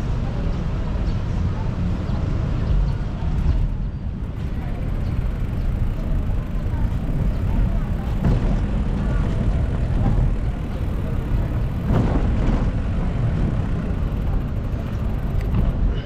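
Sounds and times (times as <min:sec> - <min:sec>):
city street traffic: 0:00.0 - 0:16.0
wind rumbling on microphone: 0:00.0 - 0:16.0.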